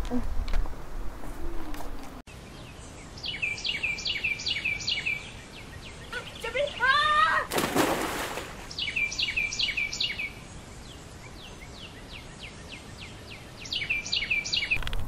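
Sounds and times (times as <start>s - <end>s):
outdoor background noise: 0.0s - 15.0s
songbird chirping: 1.2s - 15.0s.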